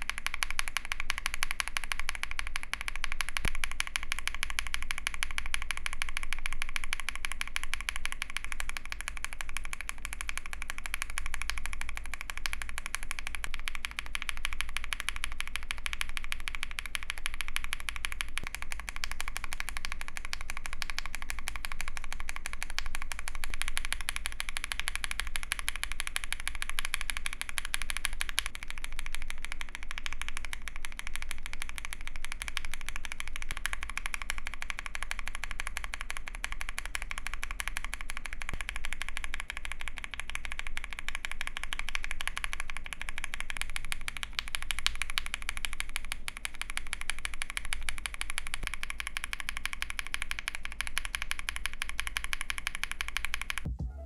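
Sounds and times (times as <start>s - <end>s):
mechanical keyboard typing: 0.0s - 53.7s.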